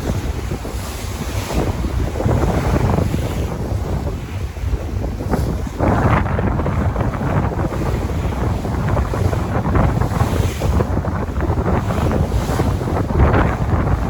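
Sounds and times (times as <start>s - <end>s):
sea waves rushing: 0.0s - 14.0s
wind buffeting the microphone: 0.0s - 14.0s.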